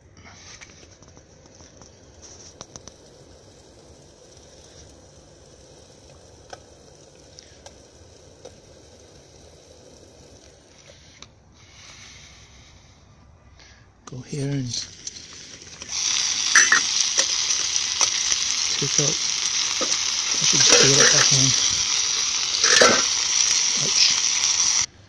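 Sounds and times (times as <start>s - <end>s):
wood pellets burning in stove: 0.2s - 12.9s, 14.4s - 24.9s.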